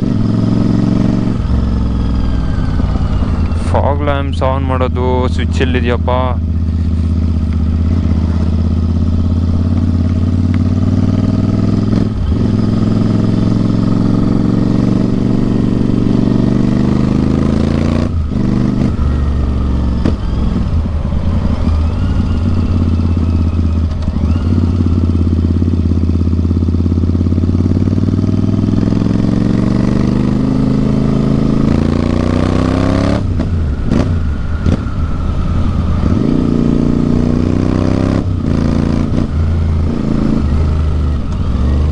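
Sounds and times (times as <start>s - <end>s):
motorcycle engine with loud exhaust: 0.0s - 41.9s.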